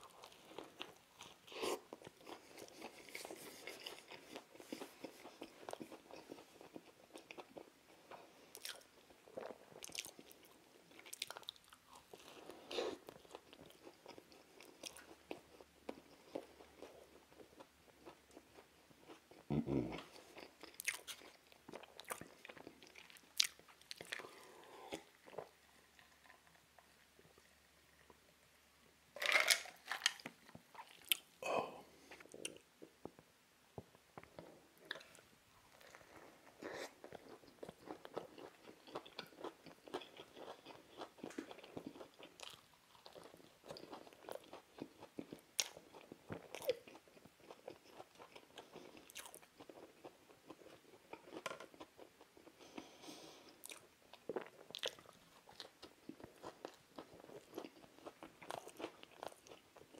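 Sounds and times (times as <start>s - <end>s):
crunchy chewing: 0.0s - 28.2s, 29.2s - 31.4s, 34.2s - 59.9s.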